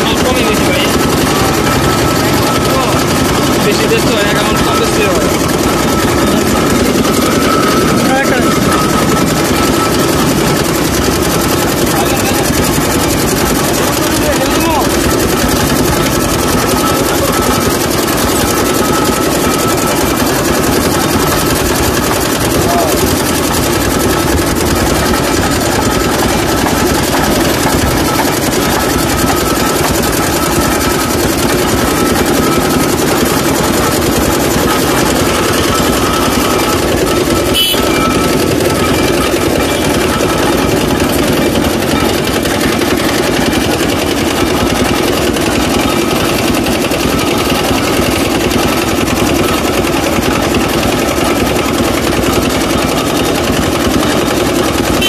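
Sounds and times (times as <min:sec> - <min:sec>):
juice crusher rollers droning: 0:00.0 - 0:55.0.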